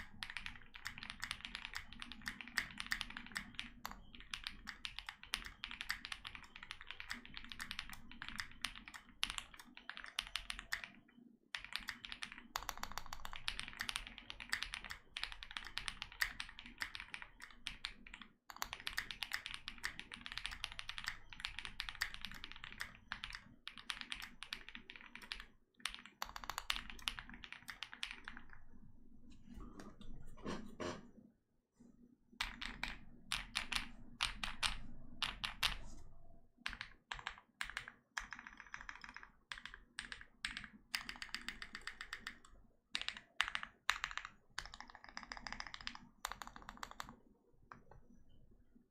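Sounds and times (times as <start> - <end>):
fast mechanical keyboard typing: 0.0 - 28.7, 32.4 - 35.8, 36.7 - 47.9.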